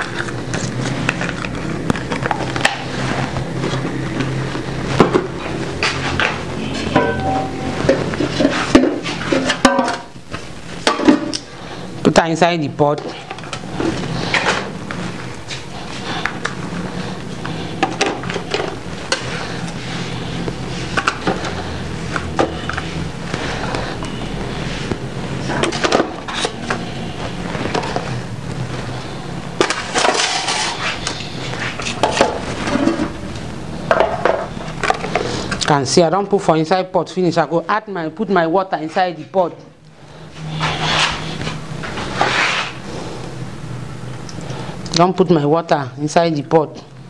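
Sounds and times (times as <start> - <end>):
steady low hum: 0.0 - 35.7, 36.3 - 45.0.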